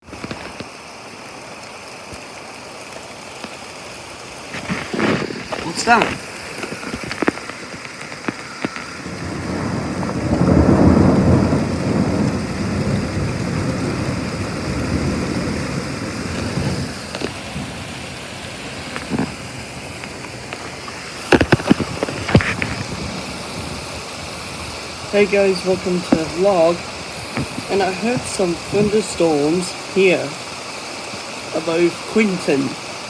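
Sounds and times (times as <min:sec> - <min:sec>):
steady rain: 0:00.0 - 0:33.0
thunder rumbling: 0:04.6 - 0:33.0.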